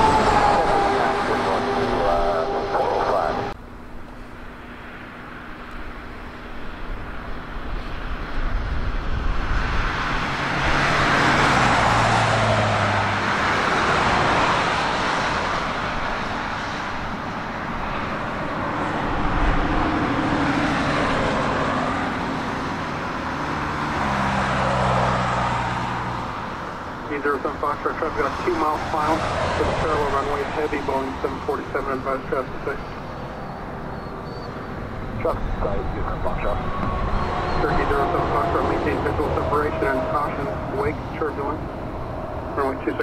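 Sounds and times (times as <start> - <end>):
jet aircraft passing: 0.0 - 43.0.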